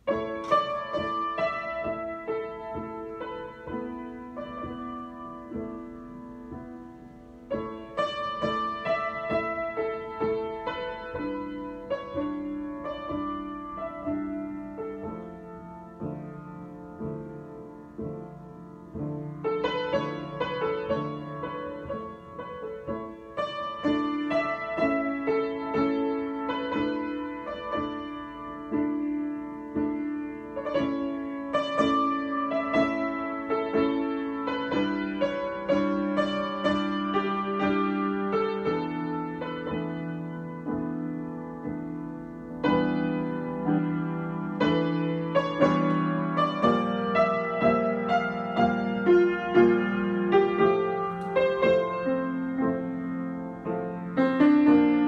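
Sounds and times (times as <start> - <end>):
solo piano improvisation: 0.0 - 55.0.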